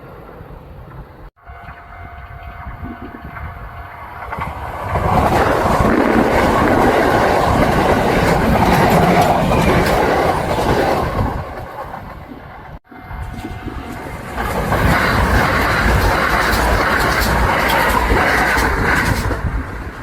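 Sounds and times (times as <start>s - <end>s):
electric train passing: 0.0s - 20.0s
wheels clattering over rail joints: 3.9s - 20.0s.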